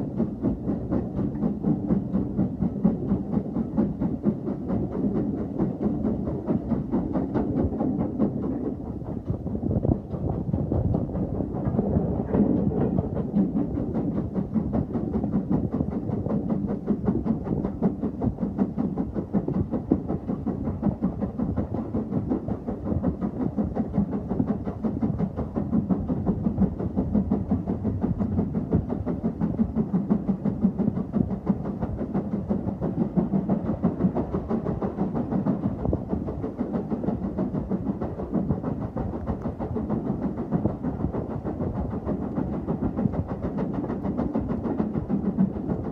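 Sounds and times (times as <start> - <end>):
train rumble: 0.0 - 45.9
wheels rattling on track: 0.0 - 45.9.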